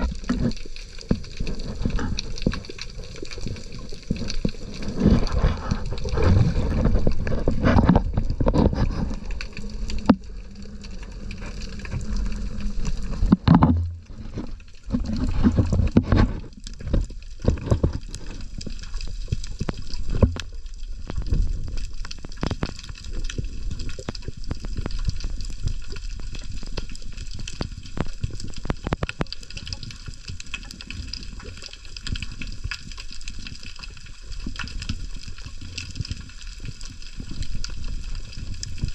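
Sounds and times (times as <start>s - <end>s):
clicks and knocks underwater: 0.0s - 38.9s
water sloshing and gurgling: 0.0s - 38.9s.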